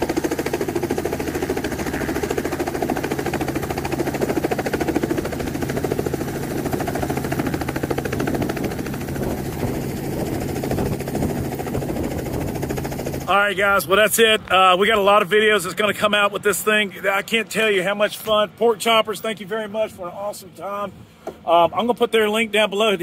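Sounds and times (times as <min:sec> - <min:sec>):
helicopter rotor and engine: 0:00.0 - 0:21.9.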